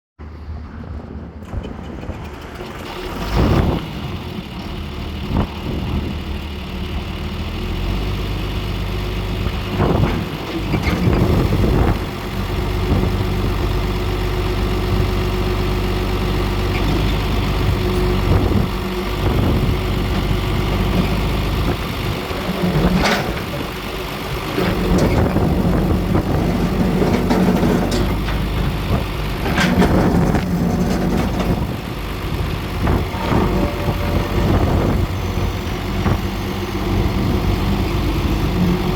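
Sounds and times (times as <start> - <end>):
tractor diesel engine running: 0.4 - 38.9.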